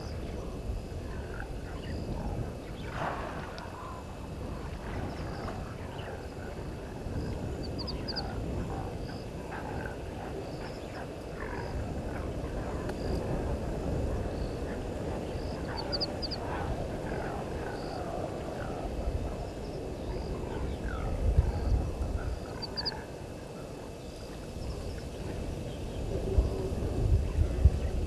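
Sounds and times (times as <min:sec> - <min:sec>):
frogs croaking and chirping: 0:00.0 - 0:28.0.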